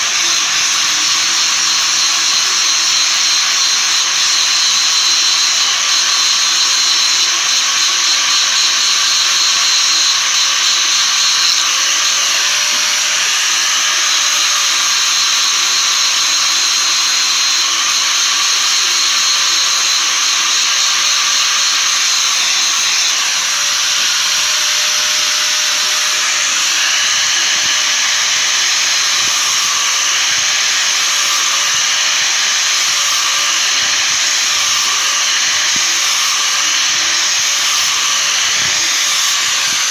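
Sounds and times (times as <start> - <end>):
power grinder sharpening metal: 0.0 - 39.9.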